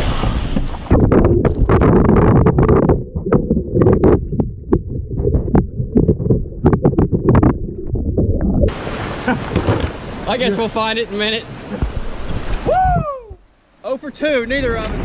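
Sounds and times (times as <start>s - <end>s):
muffled churning river water: 0.0s - 15.0s
kayak knocks and bumps: 0.3s - 8.0s, 8.7s - 13.4s.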